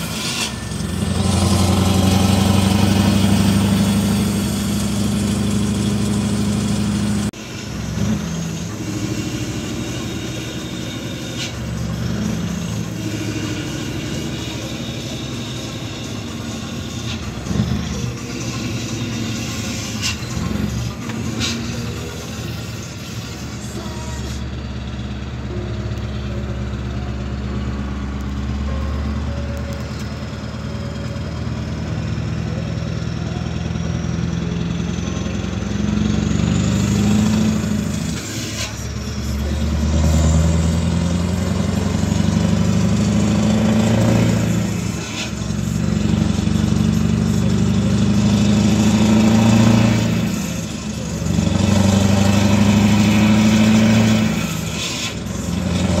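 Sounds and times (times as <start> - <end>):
diesel truck engine from cab: 0.0 - 56.0.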